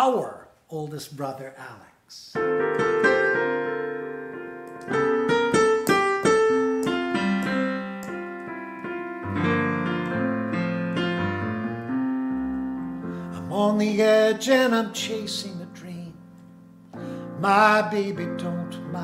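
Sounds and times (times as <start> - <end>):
piano bass line: 2.3 - 19.0
piano chords: 2.3 - 19.0.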